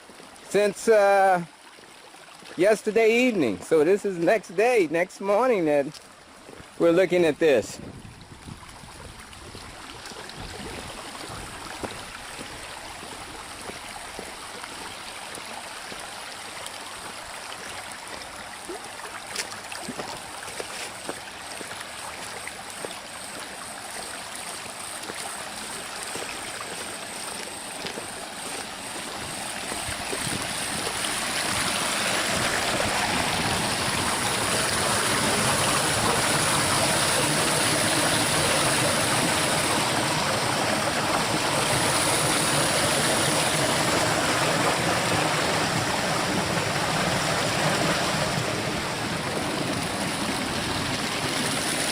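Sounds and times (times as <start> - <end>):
rainwater runoff flowing: 0.0 - 51.9.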